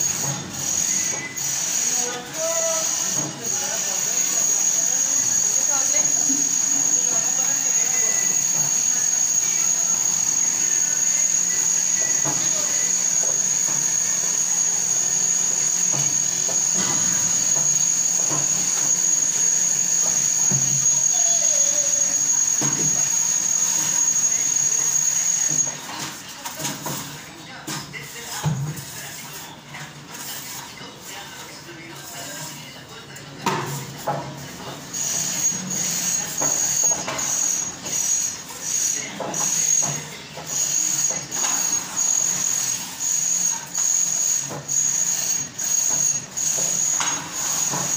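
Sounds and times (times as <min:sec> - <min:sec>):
high-pitched whine: 0:00.0 - 0:26.7, 0:34.6 - 0:47.9.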